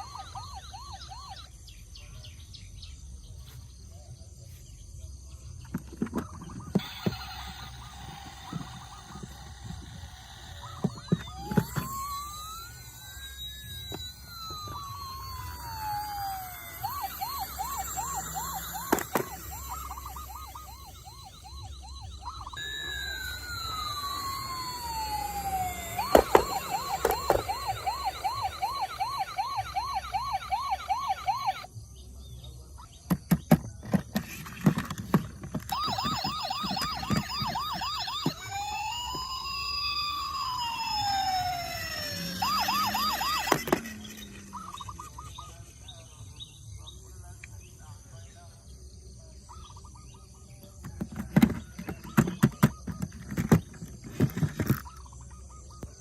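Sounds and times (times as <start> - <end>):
toy siren wailing and yelping: 0.0 - 1.7, 5.8 - 31.8, 33.9 - 45.8, 50.6 - 56.0.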